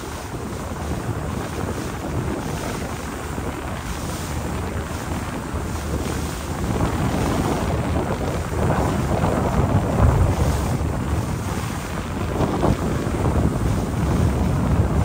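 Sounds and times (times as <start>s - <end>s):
boat engine low rumble: 0.0s - 15.0s
rush of boat wake: 0.0s - 15.0s
wind buffeting microphone: 0.0s - 15.0s.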